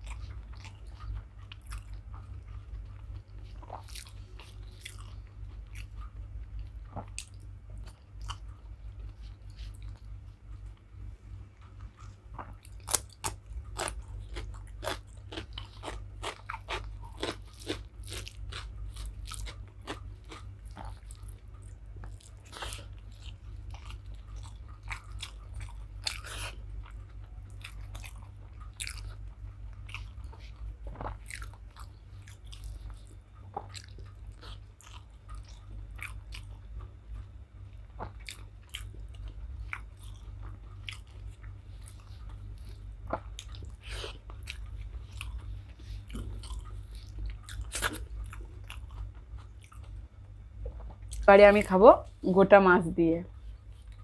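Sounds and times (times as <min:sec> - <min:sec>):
person chewing food: 0:00.0 - 0:51.3, 0:53.4 - 0:54.0
steady low hum: 0:00.0 - 0:54.0.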